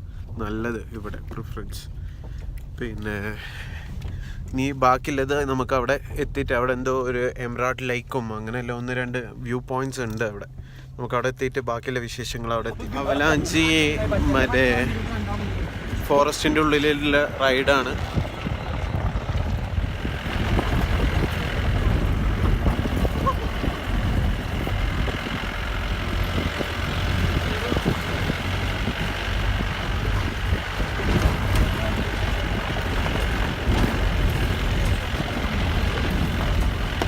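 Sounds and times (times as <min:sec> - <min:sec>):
vehicle engine and road rumble: 0:00.0 - 0:37.0.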